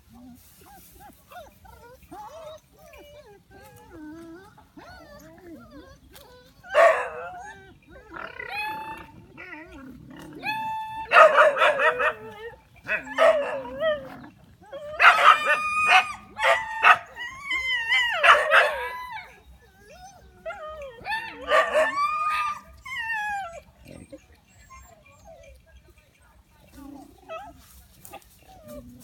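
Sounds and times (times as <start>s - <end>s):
dogs barking and yelping: 0.0s - 26.0s.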